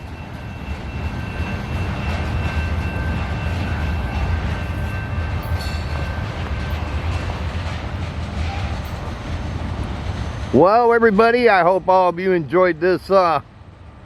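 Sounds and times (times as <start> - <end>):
freight train rumbling along track: 0.0 - 14.0.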